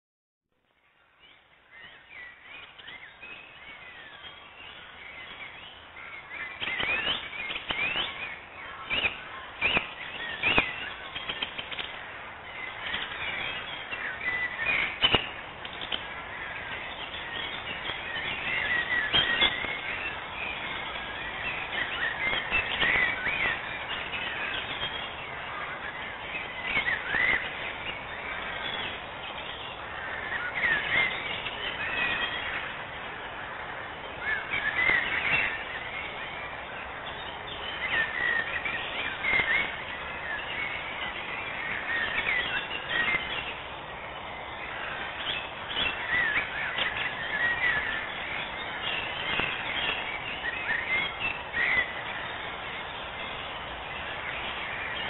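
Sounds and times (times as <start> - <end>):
birds chirping and twittering: 0.6 - 55.0.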